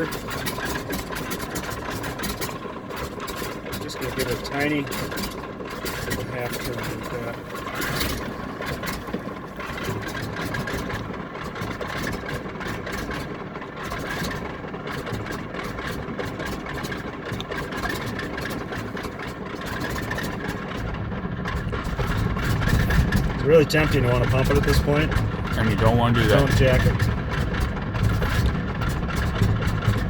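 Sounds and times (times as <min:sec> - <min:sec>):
radial engine idling unevenly: 0:00.0 - 0:30.0.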